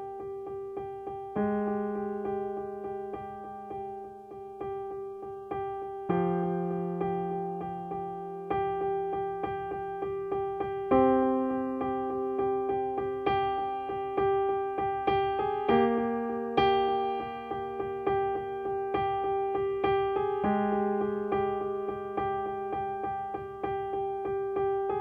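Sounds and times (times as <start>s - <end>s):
jazz piano: 0.0s - 25.0s.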